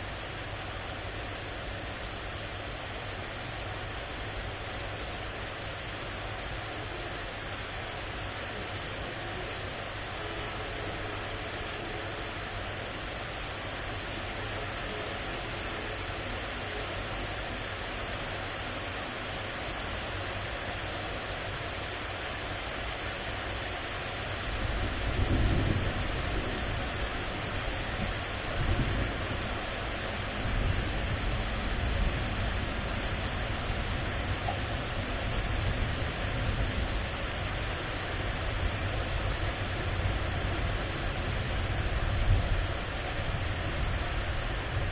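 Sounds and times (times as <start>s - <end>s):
rain hissing: 0.0s - 44.9s.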